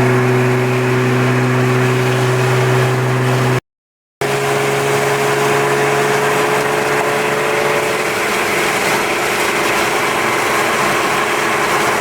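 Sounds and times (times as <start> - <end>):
car engine running: 0.0 - 3.6, 4.2 - 12.0
road noise: 0.0 - 3.6, 4.2 - 12.0.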